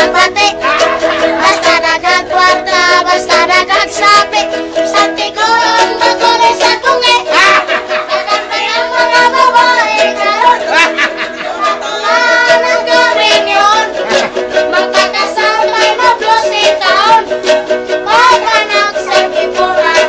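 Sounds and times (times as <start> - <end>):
person singing: 0.0 - 20.0
plucked string accompaniment: 0.0 - 20.0.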